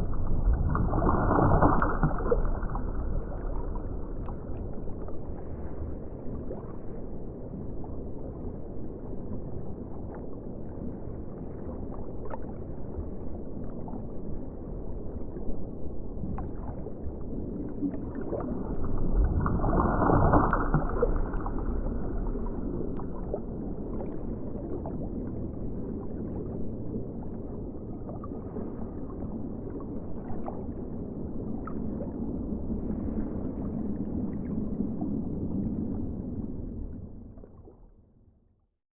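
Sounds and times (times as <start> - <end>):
muffled underwater wash: 0.0 - 38.8.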